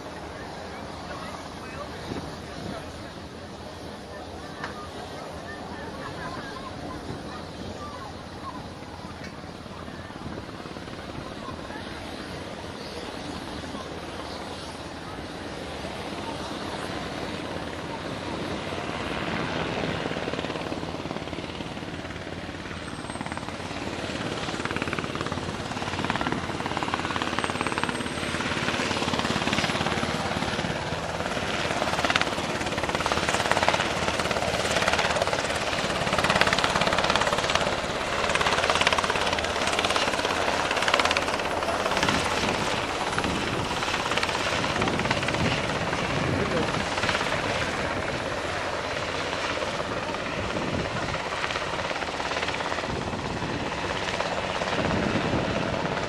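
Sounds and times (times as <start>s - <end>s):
helicopter rotor and turbine: 0.0s - 56.0s.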